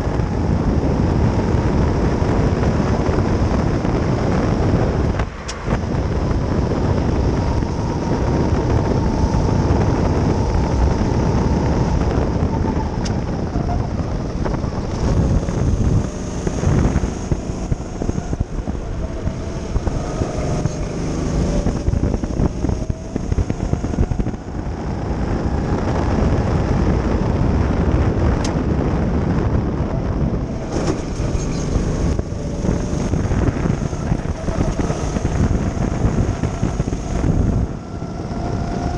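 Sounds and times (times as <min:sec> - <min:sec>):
go-kart engine running hard: 0:00.0 - 0:38.9
wind noise on microphone: 0:00.0 - 0:38.9.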